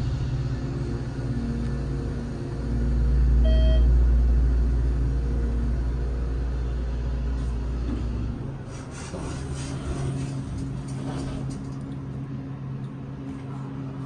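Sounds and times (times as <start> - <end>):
elevator rumble: 0.0 - 14.0
steady hum: 0.0 - 14.0.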